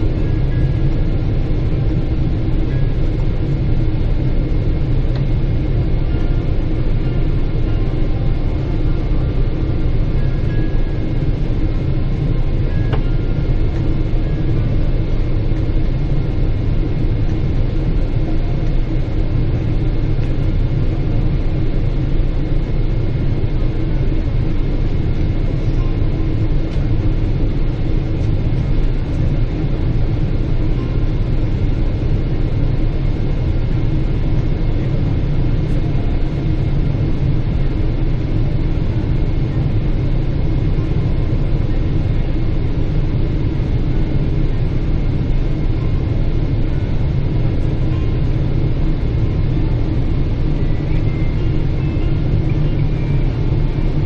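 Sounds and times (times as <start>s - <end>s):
aircraft cabin rumble in flight: 0.0s - 54.0s.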